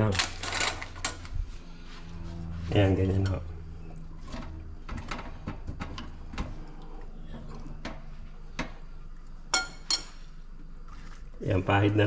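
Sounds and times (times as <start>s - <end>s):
low hum: 0.2s - 10.8s.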